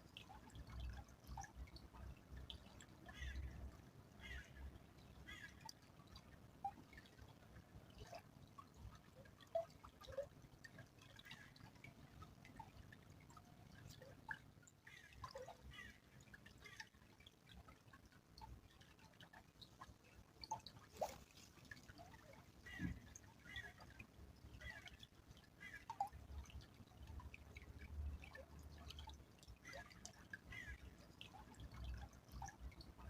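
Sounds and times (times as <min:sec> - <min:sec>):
stream trickling: 0:00.0 - 0:33.0
water drips and plinks: 0:00.0 - 0:33.0.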